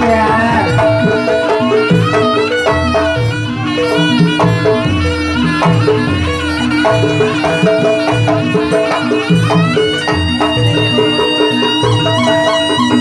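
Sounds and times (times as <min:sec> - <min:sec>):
reedy shawm melody: 0:00.0 - 0:13.0.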